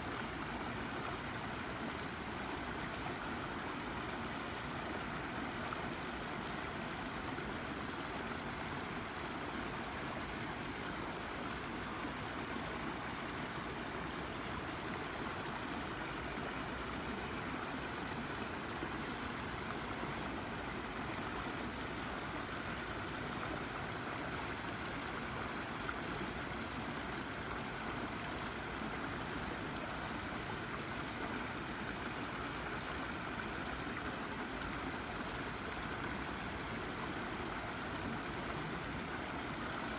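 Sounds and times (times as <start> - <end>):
brook babbling over rock: 0.0 - 39.9.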